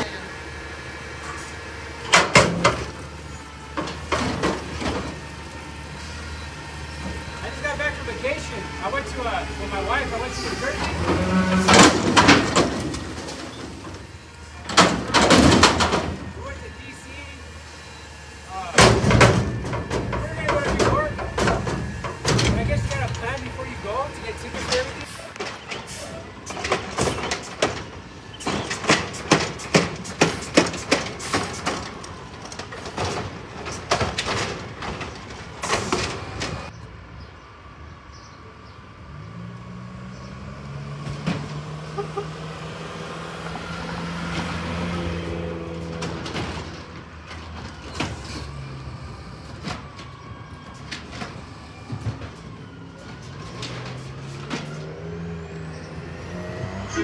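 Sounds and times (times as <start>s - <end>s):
garbage truck diesel engine: 0.0s - 57.0s.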